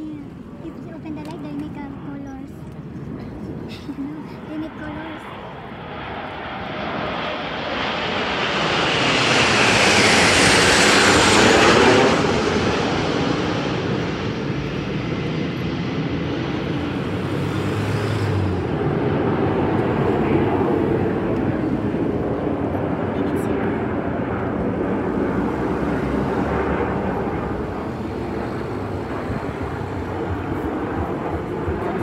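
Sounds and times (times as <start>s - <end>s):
jet aircraft flying past: 0.0s - 32.0s.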